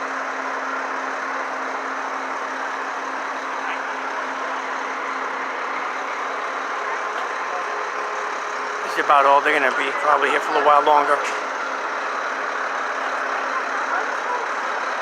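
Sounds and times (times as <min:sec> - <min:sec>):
heavy truck engine idling: 0:00.0 - 0:15.0
street noise: 0:00.0 - 0:15.0.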